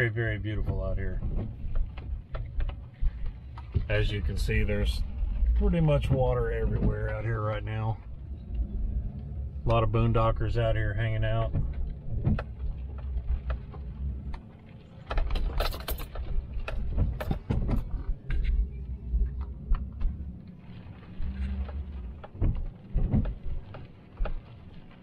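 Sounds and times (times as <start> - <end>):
knocks and rattles: 0.0 - 8.3, 9.6 - 25.0
vehicle road rumble: 0.0 - 25.0.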